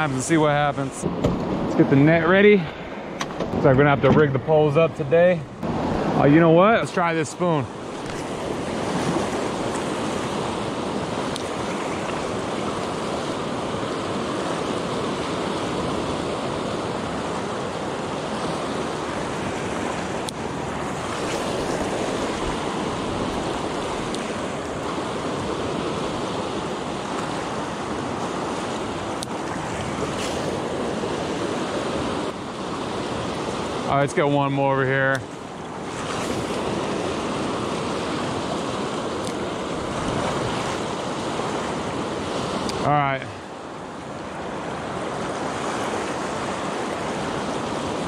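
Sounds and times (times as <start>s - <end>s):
river rushing: 0.0s - 48.0s.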